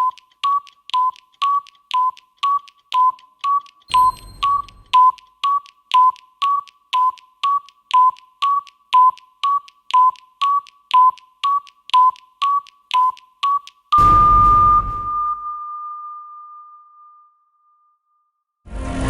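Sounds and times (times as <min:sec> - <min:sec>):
countdown timer beeps: 0:00.0 - 0:16.6.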